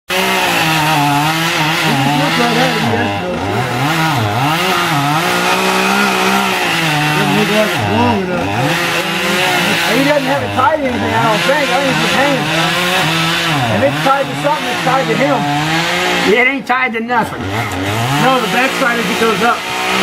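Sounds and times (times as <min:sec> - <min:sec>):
chainsaw cutting wood: 0:00.1 - 0:20.0.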